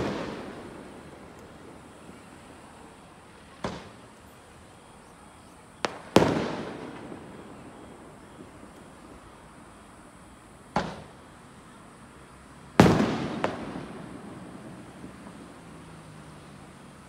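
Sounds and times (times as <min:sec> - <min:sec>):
small firework crack: 0:00.0 - 0:09.8, 0:10.6 - 0:11.7, 0:12.7 - 0:17.0
fireworks bangs echoing: 0:00.0 - 0:11.4, 0:12.7 - 0:16.4.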